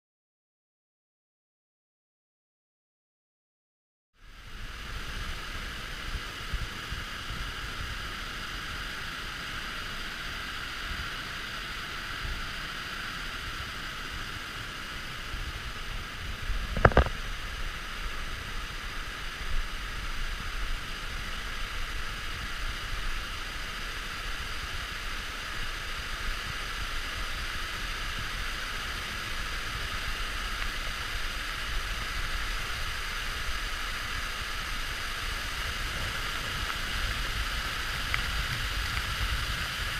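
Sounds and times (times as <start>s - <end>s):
waterfall rushing: 4.3s - 39.9s.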